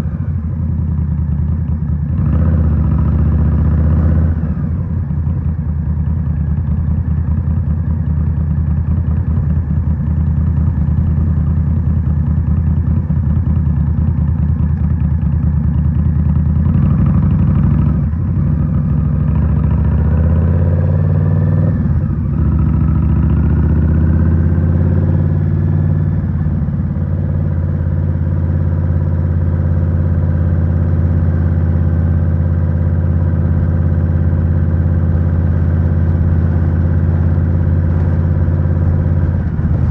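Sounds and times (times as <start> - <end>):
motorcycle engine revving: 2.0 - 5.2, 10.5 - 39.9.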